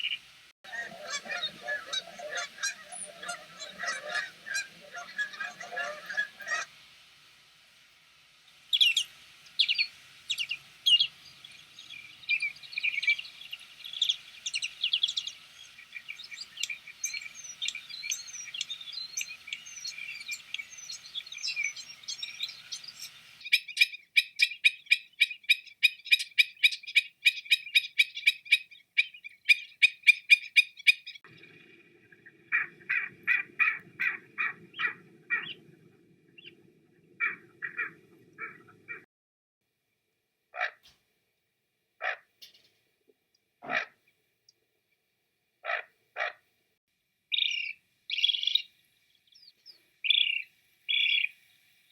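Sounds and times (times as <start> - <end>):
wild birds chirping: 0.0 - 6.7, 8.5 - 39.1, 40.6 - 40.9, 42.0 - 42.3, 43.6 - 44.0, 45.6 - 46.4, 47.3 - 51.5.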